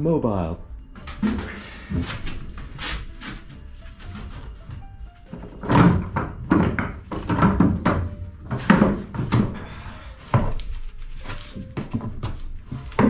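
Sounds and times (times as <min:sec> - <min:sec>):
wooden knocks and thuds: 0:01.0 - 0:13.0.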